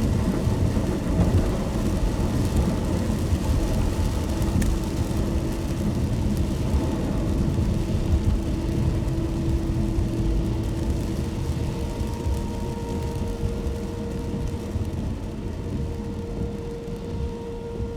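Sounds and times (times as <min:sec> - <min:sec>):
car tyres and engine rumble: 0:00.0 - 0:17.9
faint steady hum: 0:00.0 - 0:17.9.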